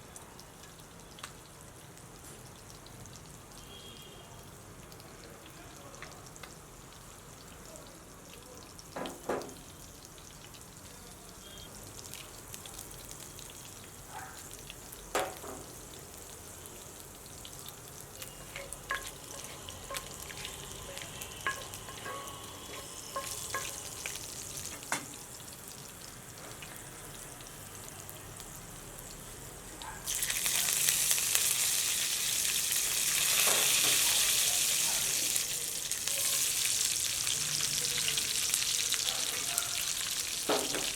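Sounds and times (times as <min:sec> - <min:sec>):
food sizzling in a pan: 0:00.0 - 0:40.9
loud dense sizzle: 0:00.0 - 0:40.9.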